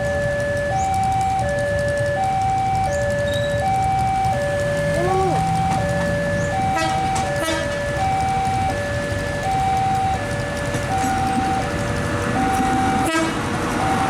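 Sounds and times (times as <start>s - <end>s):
level-crossing warning alarm: 0.0s - 14.0s.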